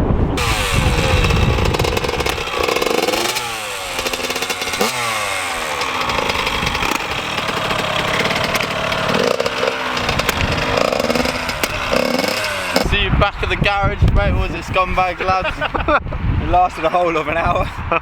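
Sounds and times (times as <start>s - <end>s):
dirt bike engine revving: 0.4s - 15.8s.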